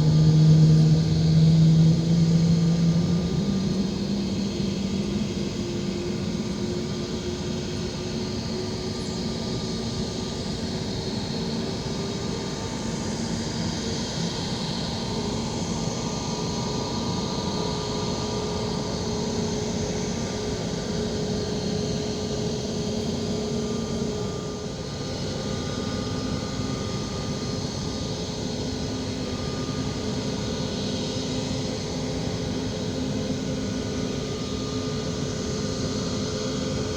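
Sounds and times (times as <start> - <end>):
aircraft engines running: 0.0 - 36.9.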